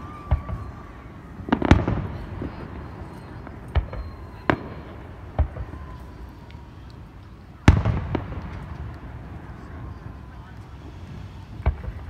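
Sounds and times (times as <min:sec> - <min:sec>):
fireworks bangs: 0:00.0 - 0:12.0
small firework pops: 0:01.5 - 0:12.0.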